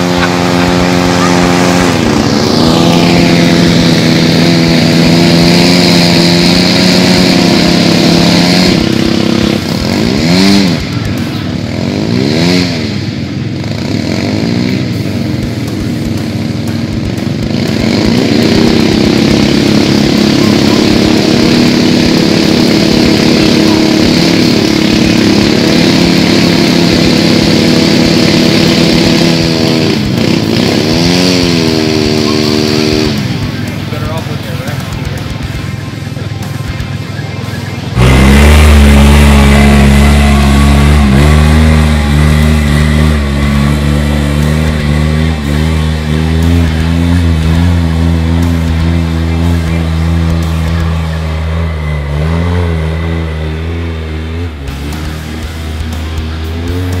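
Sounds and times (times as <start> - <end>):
engine revving hard: 0.0 - 35.5, 37.9 - 57.0
wheels spinning in mud: 0.0 - 37.0, 37.6 - 57.0.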